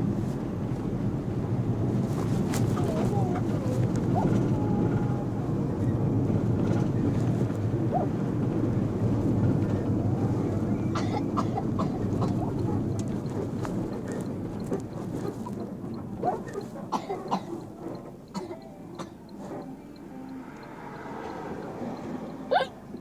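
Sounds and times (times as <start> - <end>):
bus cabin rumble: 0.0 - 23.0.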